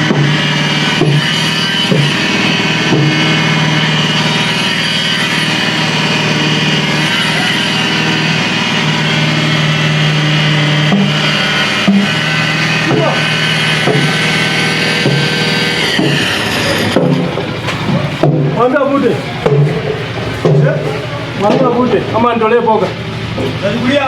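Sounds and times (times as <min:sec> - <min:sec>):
concrete vibrator running: 0:00.0 - 0:24.0.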